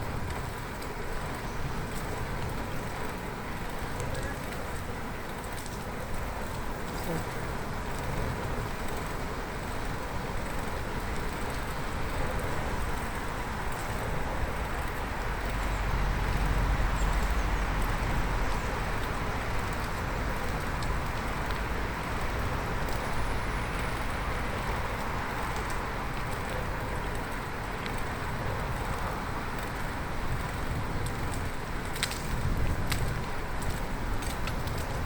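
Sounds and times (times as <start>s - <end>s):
bicycle tyres rolling on road: 0.0s - 35.0s
wind noise: 0.0s - 35.0s.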